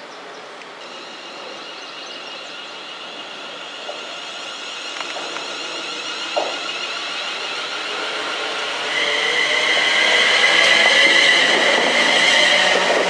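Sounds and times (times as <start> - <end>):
wheel and rail noise: 0.2 - 13.0
electric train motor whine: 0.8 - 13.0.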